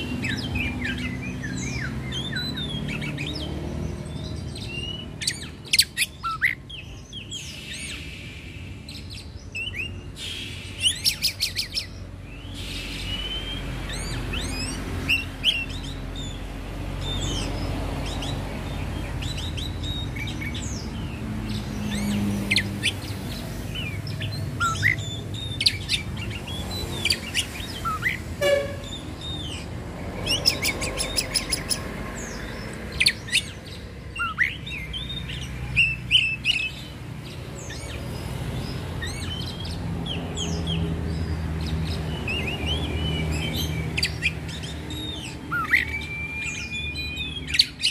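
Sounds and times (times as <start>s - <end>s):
bird singing whistled notes: 4.1s - 16.4s, 17.0s - 36.9s, 39.0s - 47.9s.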